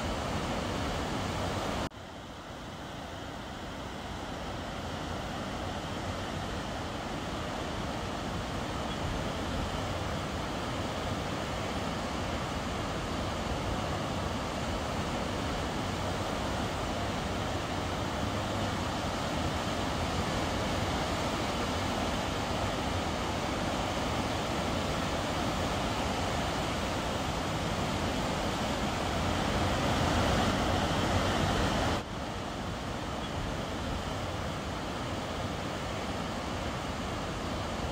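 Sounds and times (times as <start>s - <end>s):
river water rushing over dam: 0.0s - 37.9s.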